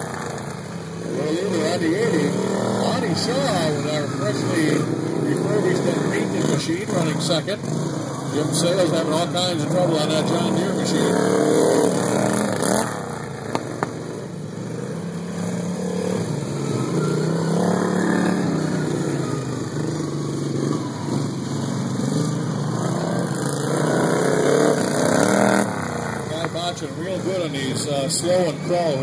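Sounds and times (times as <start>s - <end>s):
small racing engines running hard: 0.0s - 29.0s.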